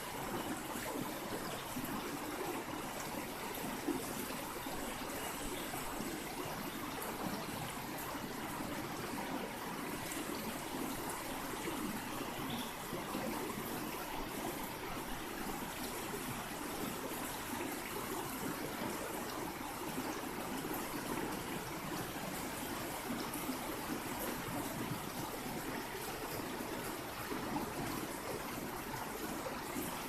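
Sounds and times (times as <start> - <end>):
river flowing: 0.0 - 30.0.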